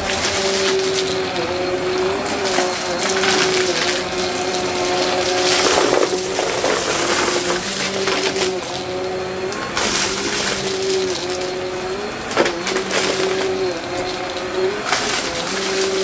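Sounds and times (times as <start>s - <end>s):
debris rattling up vacuum nozzle: 0.0s - 16.0s
vacuum cleaner motor whine: 0.0s - 16.0s.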